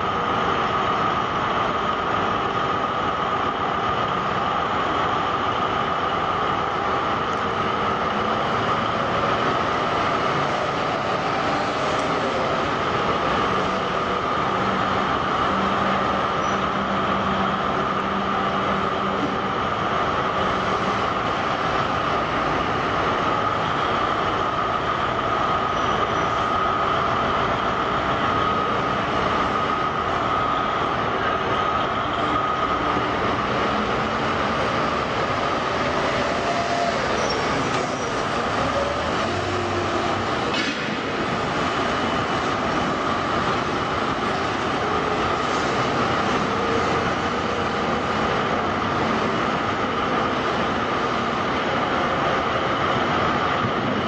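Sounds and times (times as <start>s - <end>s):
wheel loader engine drone: 0.0s - 54.0s.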